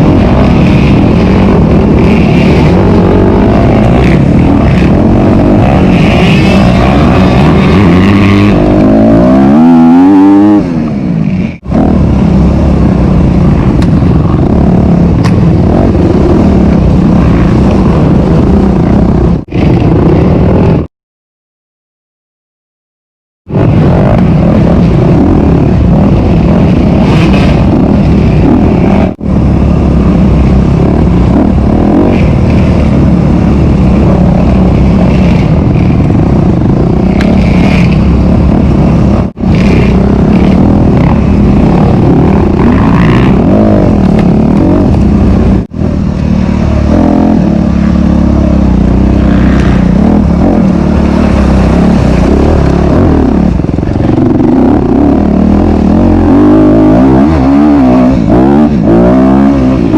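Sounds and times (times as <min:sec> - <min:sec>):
dirt bike engine running hard: 0:00.0 - 0:20.9, 0:23.5 - 0:59.9.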